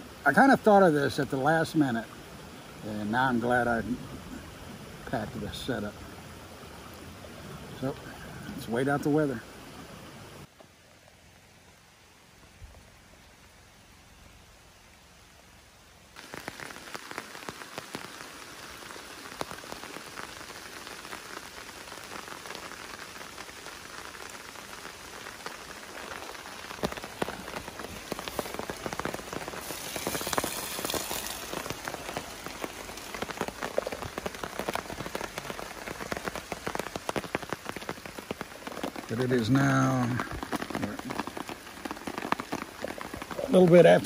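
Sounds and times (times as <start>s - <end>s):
rain pattering on tarp: 0.0s - 14.0s, 16.1s - 44.0s.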